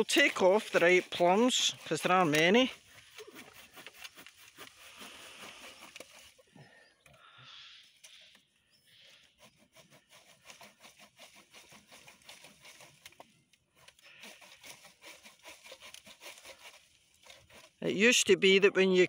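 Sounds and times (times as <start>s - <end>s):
hand saw cutting wood: 0.0s - 6.5s, 9.0s - 17.9s.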